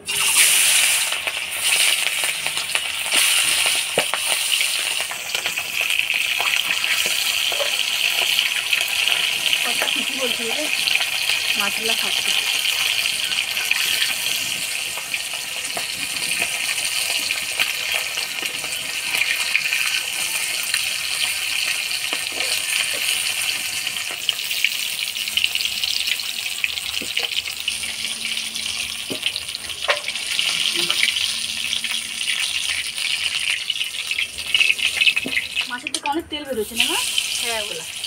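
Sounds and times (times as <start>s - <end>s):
fish frying in hot oil: 0.0s - 38.0s.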